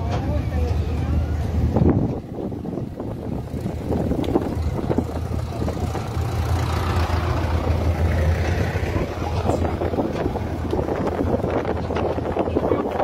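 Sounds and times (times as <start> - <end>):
road train engine hum: 0.0 - 13.0
travel and wind noise: 0.0 - 13.0.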